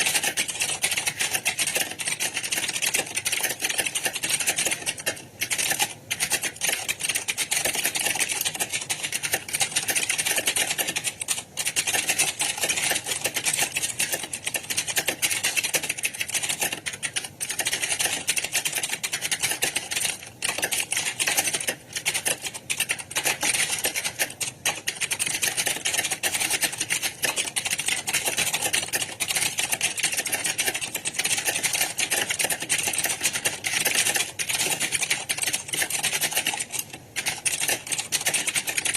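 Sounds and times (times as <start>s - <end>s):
many keyboards clattering: 0.0s - 38.9s.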